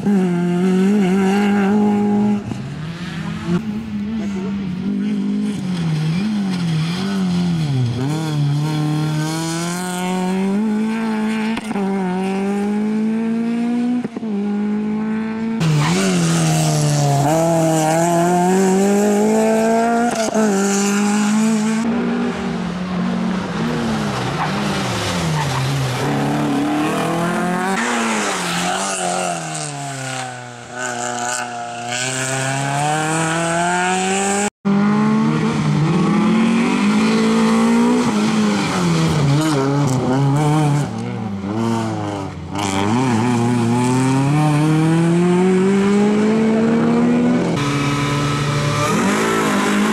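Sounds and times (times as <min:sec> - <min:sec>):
rally car engine revving: 0:00.0 - 0:49.9.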